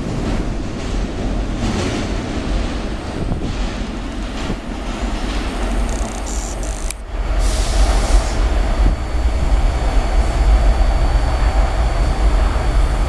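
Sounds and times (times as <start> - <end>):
subway train rumbling on rails: 0.0 - 13.0.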